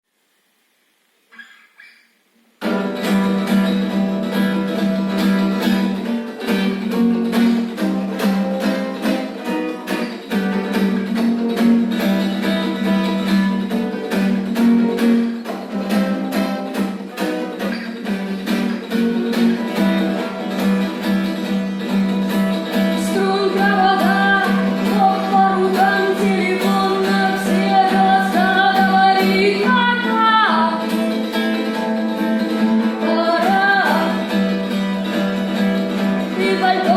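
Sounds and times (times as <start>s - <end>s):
plucked guitar with percussive strikes: 2.6s - 36.9s.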